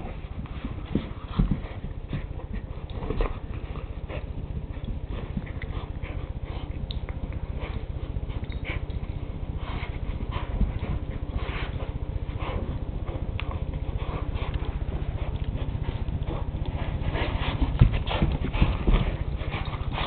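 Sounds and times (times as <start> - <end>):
dogs play-fighting: 0.0 - 20.0
steady low hum: 0.0 - 20.0.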